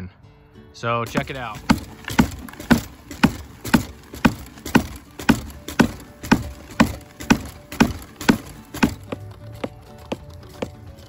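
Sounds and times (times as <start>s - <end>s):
hoe tapping plastic hopper: 1.0s - 11.0s.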